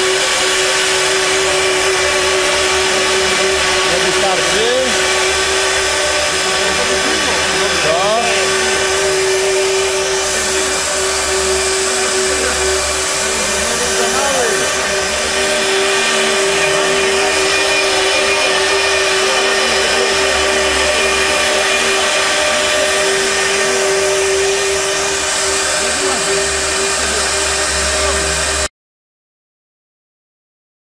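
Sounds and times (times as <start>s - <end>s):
machine cutting pipe: 0.0s - 28.7s
motor whine: 0.0s - 28.7s.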